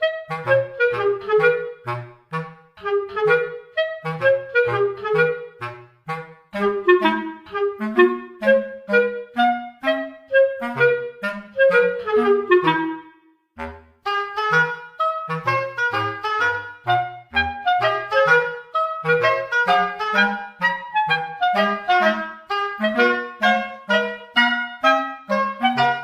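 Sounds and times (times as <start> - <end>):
clarinet-like melody: 0.0 - 26.0.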